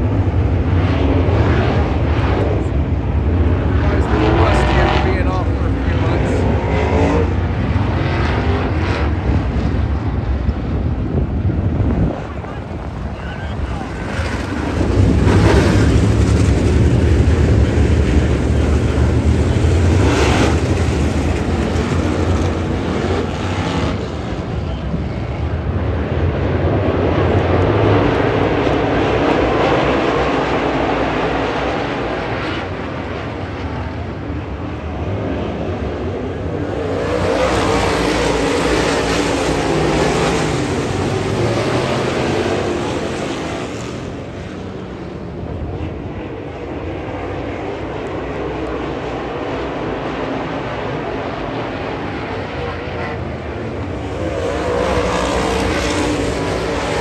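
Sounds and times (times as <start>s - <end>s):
race car engines passing: 0.0s - 57.0s.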